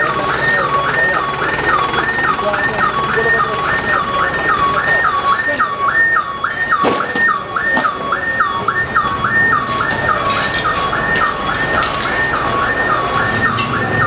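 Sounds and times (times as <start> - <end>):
electronic alarm: 0.0 - 14.0.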